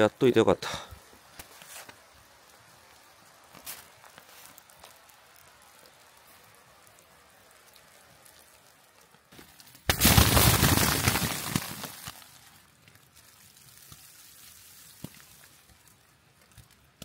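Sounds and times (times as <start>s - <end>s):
wet snow pattering on tent: 0.0s - 17.0s.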